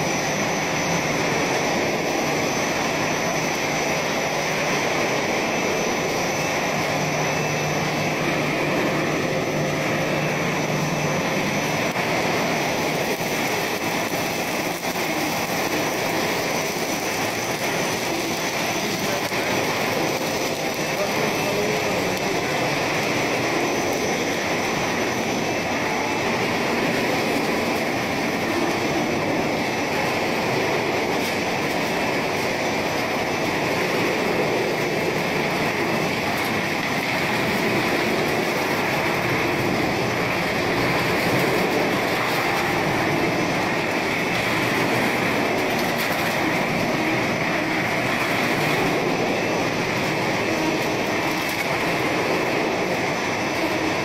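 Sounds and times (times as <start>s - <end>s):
production line machinery running: 0.0s - 54.0s.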